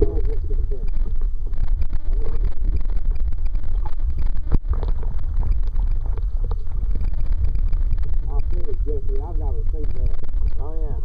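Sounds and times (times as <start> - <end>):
water and wind buffeting microphone: 0.0 - 11.0.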